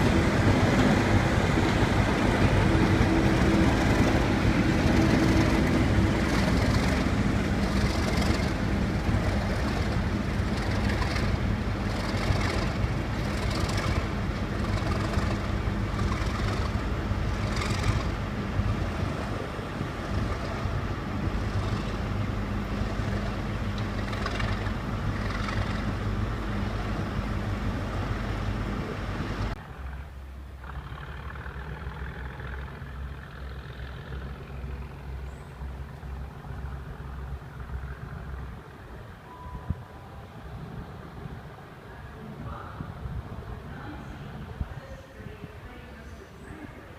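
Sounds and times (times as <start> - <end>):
diesel locomotive engine throbbing: 0.0 - 46.9.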